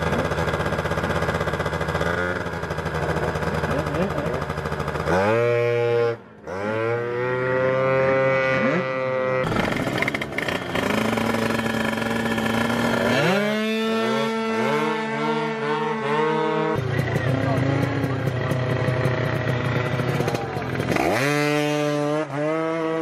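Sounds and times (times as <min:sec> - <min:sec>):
scooter engines revving: 0:00.0 - 0:23.0.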